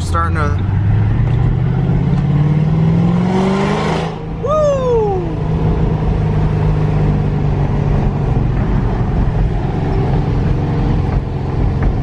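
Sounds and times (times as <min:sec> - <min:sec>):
car engine humming: 0:00.0 - 0:12.0
road noise: 0:00.0 - 0:12.0.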